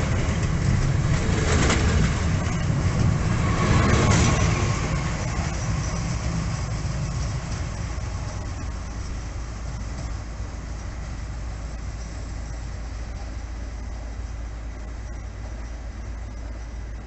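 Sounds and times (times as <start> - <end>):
train pulling away rumbling: 0.0 - 17.0.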